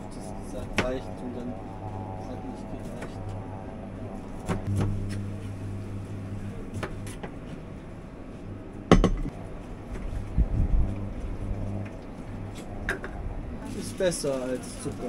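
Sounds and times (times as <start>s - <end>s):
kitchen equipment hum: 0.0s - 14.5s.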